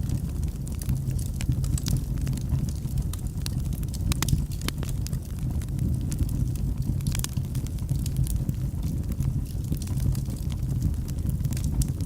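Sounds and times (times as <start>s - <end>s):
fire crackles and pops: 0.0s - 12.0s
fire flames rumbling: 0.0s - 12.0s.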